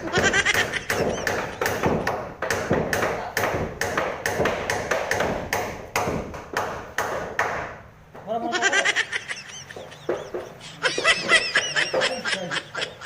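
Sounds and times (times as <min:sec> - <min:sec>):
sharp knocks: 0:00.0 - 0:08.3, 0:09.2 - 0:13.0.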